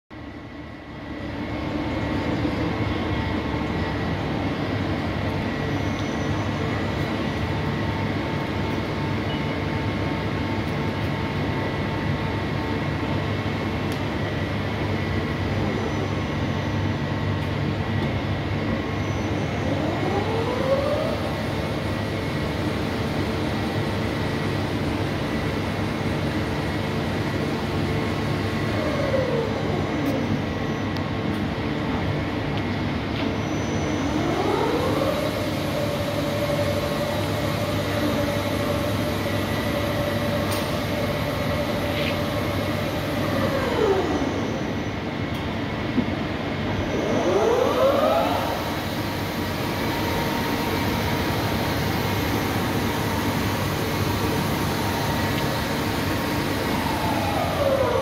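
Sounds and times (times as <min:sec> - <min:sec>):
lathe humming and whining: 0:00.2 - 0:58.0.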